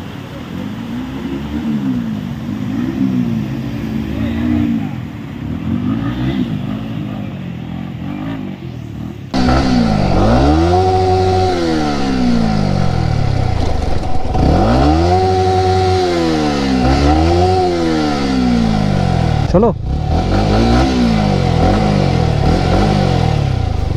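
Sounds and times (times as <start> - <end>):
motorcycle engine accelerating: 1.1 - 23.9.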